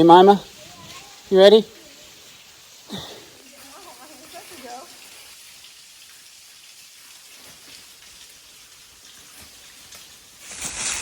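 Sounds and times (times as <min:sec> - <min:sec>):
water dripping: 0:00.0 - 0:10.6.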